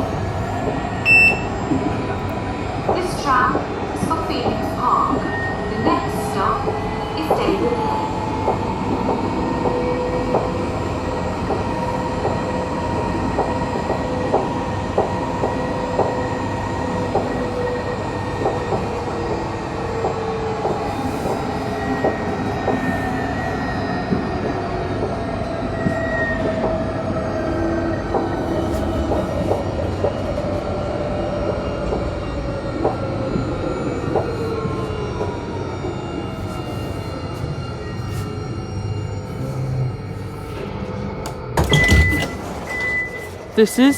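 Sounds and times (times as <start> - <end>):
tram rumbling: 0.0 - 43.9.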